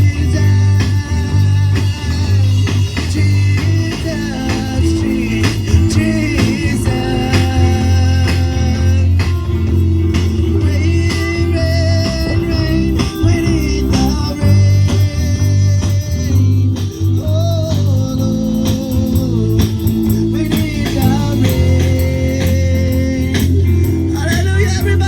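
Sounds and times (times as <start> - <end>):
guitar strumming: 0.0 - 25.0
person singing: 0.0 - 25.0.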